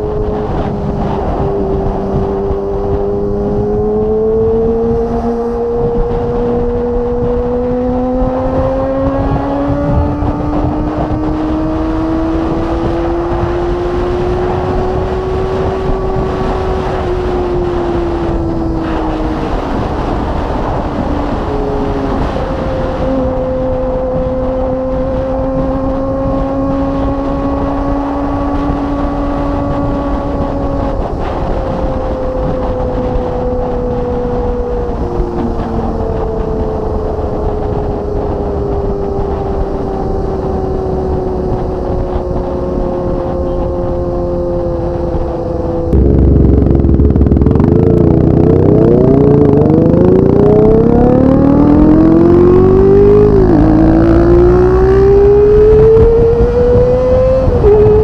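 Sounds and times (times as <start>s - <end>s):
motorcycle engine riding: 0.0s - 58.0s.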